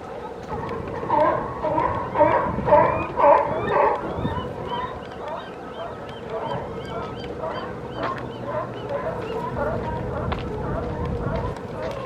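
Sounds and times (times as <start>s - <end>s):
seagulls calling: 0.0s - 12.0s.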